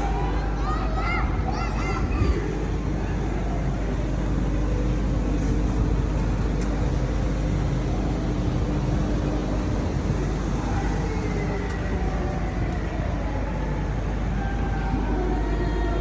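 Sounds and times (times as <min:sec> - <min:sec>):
steady hum: 0:00.0 - 0:16.0
vehicle engine rumbling: 0:00.0 - 0:16.0.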